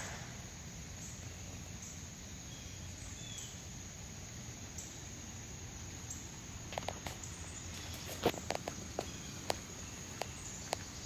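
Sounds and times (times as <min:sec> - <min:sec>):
light rain on flagstones: 0:00.0 - 0:11.0.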